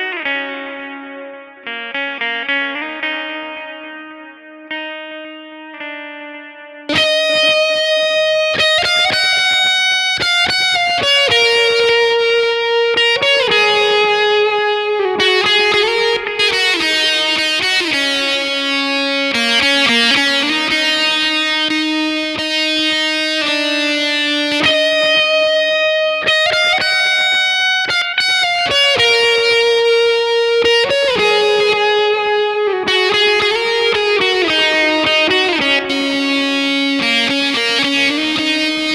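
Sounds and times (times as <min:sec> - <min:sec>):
distorted electric guitar solo: 0:00.0 - 0:38.9.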